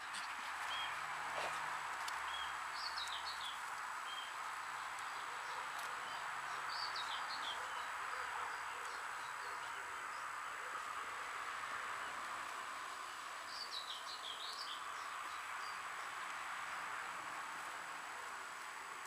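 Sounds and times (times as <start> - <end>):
small birds chirping: 0.0 - 16.8
outdoor background hiss: 0.0 - 19.0.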